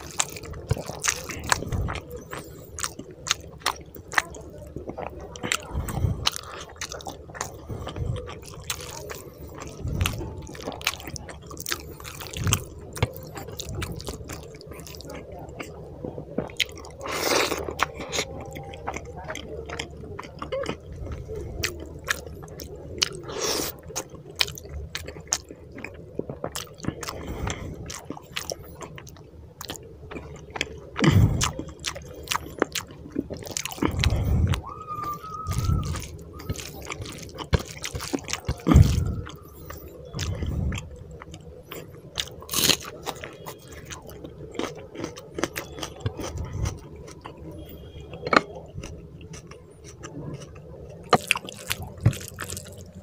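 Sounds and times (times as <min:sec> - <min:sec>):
person chewing with wet smacks: 0:00.0 - 0:53.0.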